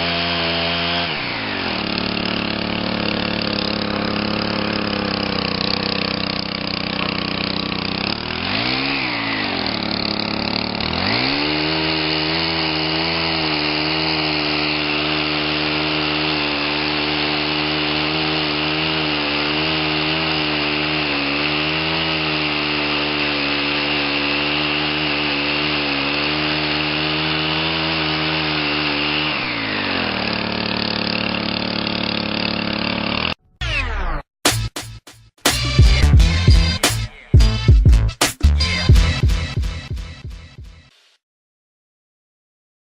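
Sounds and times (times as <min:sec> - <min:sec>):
chainsaw cutting wood: 0:00.0 - 0:41.2.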